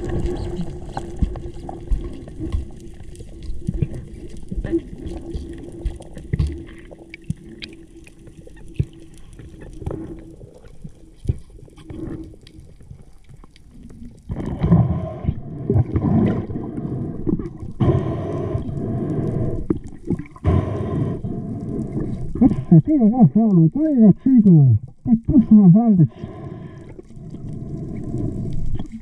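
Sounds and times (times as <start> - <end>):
faint underwater clicks: 0.0 - 29.0
muffled underwater rushing and gurgling: 0.0 - 29.0.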